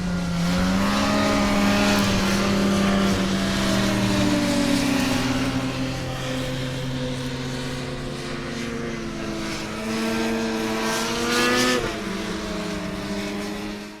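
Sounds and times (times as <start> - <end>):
snowmobile engine accelerating: 0.0 - 14.0.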